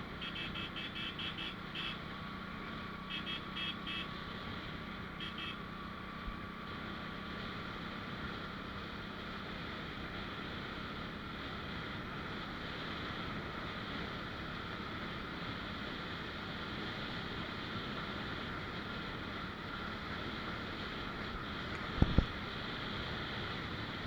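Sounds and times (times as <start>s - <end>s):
motorcycle engine running: 0.0s - 24.0s
road and wind noise: 0.0s - 24.0s.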